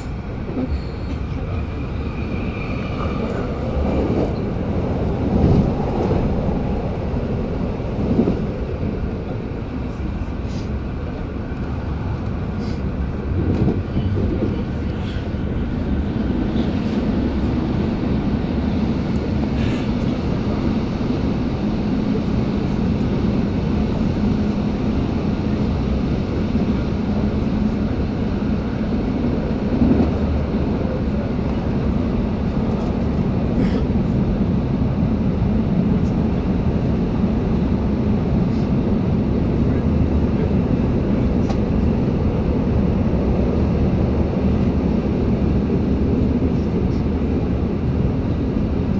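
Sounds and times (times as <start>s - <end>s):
electric train rumbling: 0.0s - 48.9s.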